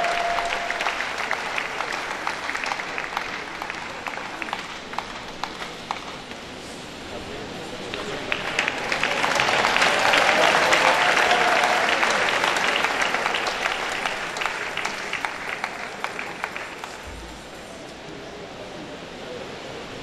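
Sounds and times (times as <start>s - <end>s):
crowd applauding: 0.0s - 6.5s, 7.6s - 18.4s.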